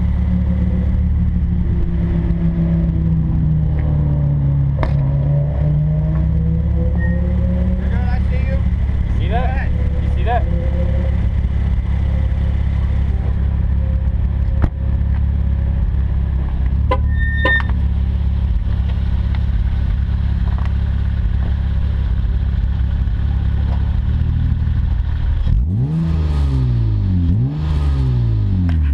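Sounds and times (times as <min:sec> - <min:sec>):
engine revving: 0:00.0 - 0:17.7, 0:23.4 - 0:28.9
car exhaust engine running: 0:00.0 - 0:25.9.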